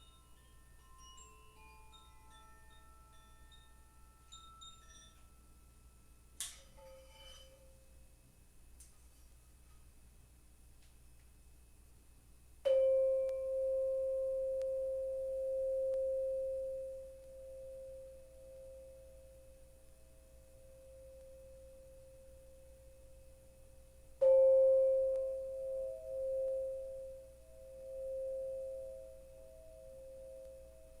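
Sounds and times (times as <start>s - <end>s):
singing bowl ringing: 0.0s - 7.8s, 12.6s - 31.0s.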